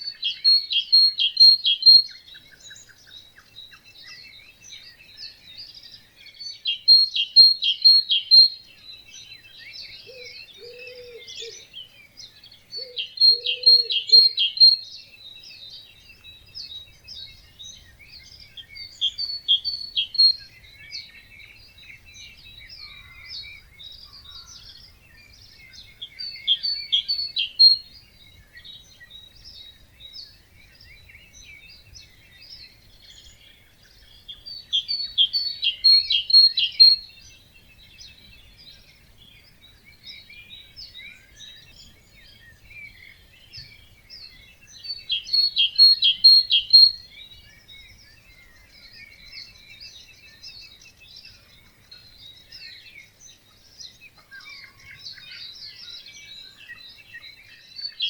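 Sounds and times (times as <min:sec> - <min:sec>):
bird singing rapid repeated notes: 0:00.0 - 0:58.0
other birds singing and calling: 0:00.0 - 0:58.0.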